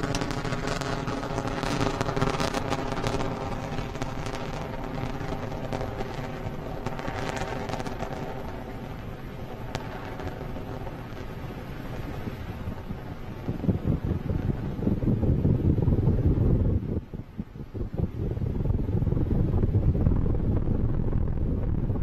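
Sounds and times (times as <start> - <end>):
rocket engines crackling rumble: 0.0 - 22.0.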